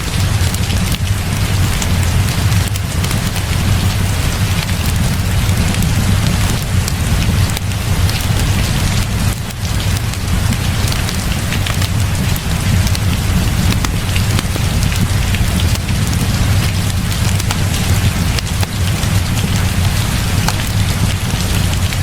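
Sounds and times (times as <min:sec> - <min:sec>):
deep low rumble: 0:00.0 - 0:22.0
heavy rain pouring: 0:00.0 - 0:22.0
wood fire crackling: 0:00.0 - 0:22.0.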